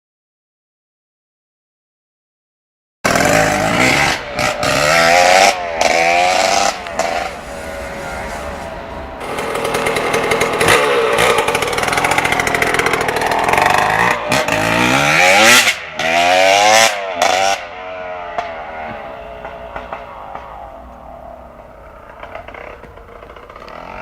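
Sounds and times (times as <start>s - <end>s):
two-stroke engine revving: 3.1s - 24.0s.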